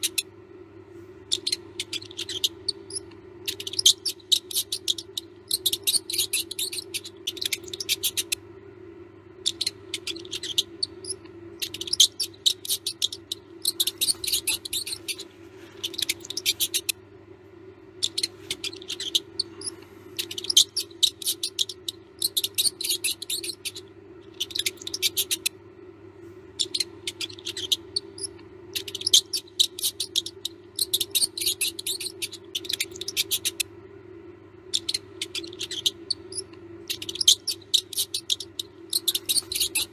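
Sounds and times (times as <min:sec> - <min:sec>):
mouse squeaking: 0:00.0 - 0:00.3, 0:01.3 - 0:08.4, 0:09.4 - 0:17.0, 0:18.0 - 0:25.6, 0:26.6 - 0:33.7, 0:34.6 - 0:39.9
steady low hum: 0:00.0 - 0:39.9.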